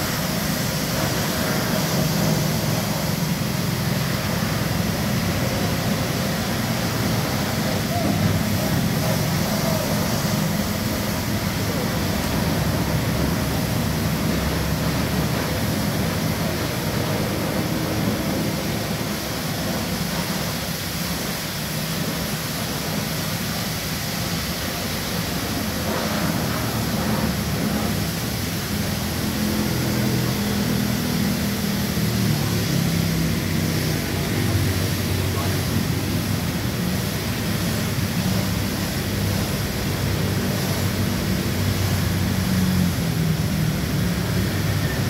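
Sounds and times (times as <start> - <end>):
pressure washer spray hiss: 0.0 - 45.0.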